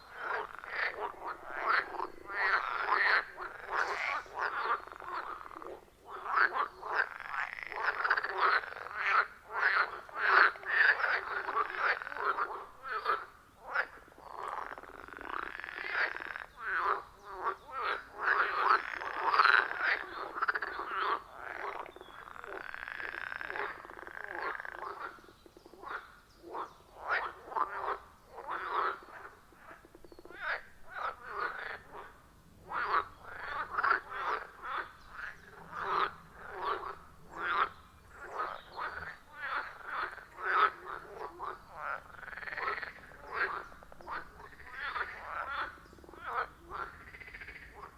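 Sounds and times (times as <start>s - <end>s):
frogs calling: 0.0s - 47.9s.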